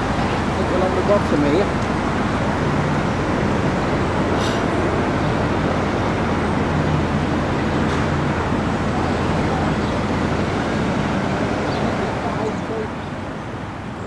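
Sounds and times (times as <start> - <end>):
constant rushing noise: 0.0 - 14.0
diesel engine running low: 0.0 - 14.0.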